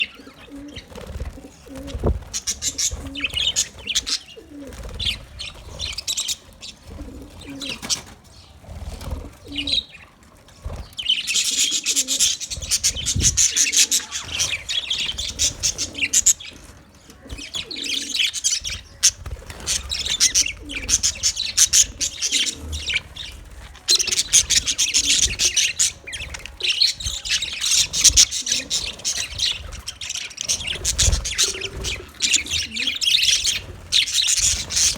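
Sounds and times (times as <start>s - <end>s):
budgerigars chirping: 0.0s - 8.5s, 10.7s - 34.9s.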